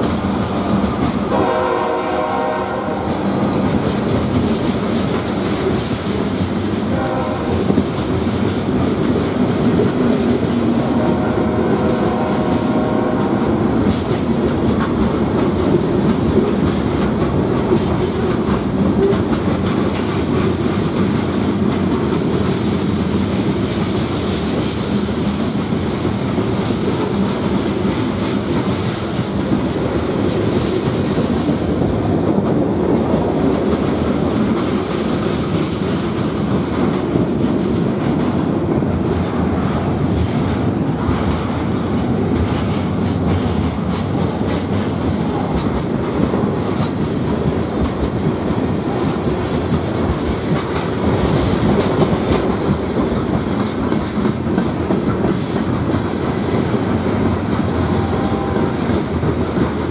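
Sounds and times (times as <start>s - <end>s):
freight train rolling on rails: 0.0s - 59.9s.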